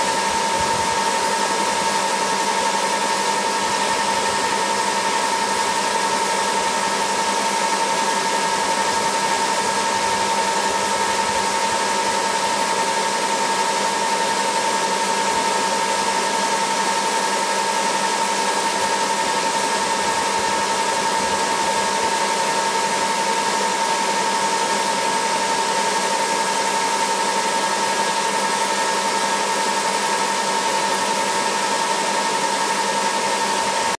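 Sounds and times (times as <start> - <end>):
helicopter turbine whine: 0.0 - 34.0.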